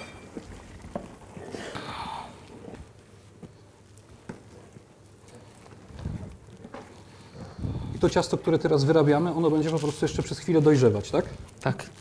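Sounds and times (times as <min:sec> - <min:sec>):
dough mixed by hand: 0:00.0 - 0:12.0.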